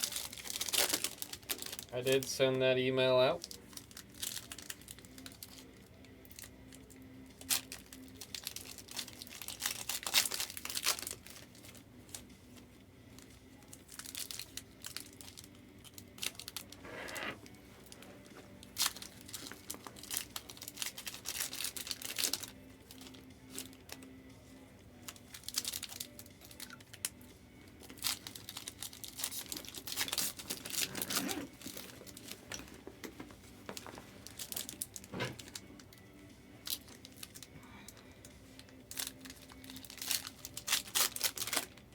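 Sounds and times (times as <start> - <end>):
plastic wrappers crinkling and tearing: 0.0 - 24.2, 24.9 - 41.9.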